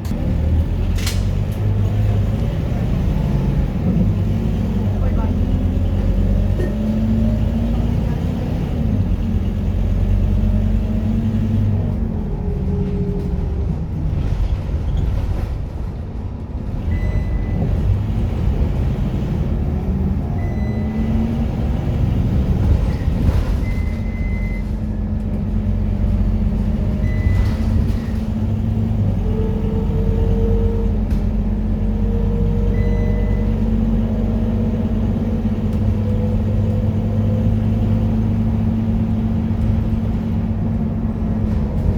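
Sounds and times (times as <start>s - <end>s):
bus engine running: 0.0s - 41.9s.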